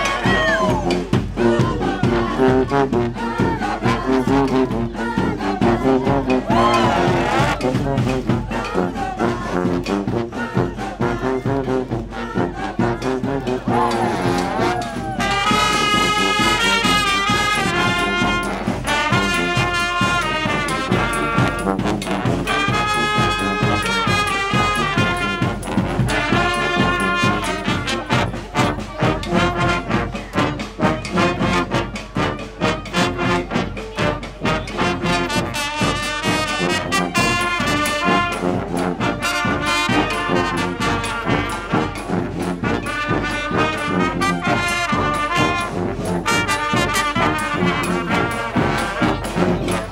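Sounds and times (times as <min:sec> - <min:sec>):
brass marching band playing: 0:00.0 - 0:49.9.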